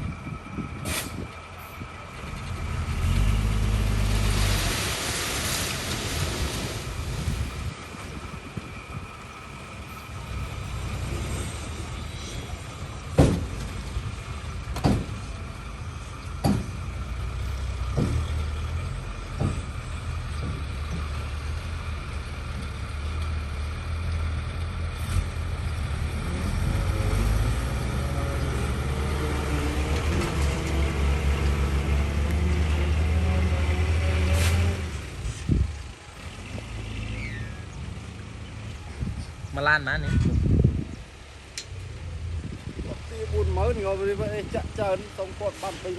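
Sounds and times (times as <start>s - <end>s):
heavy vehicle engine running: 0.0s - 39.5s.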